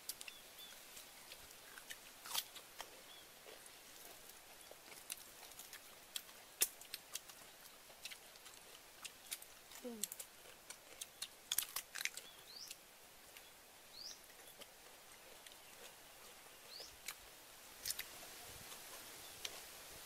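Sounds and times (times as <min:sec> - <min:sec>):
people eating with hands: 0:00.0 - 0:20.0.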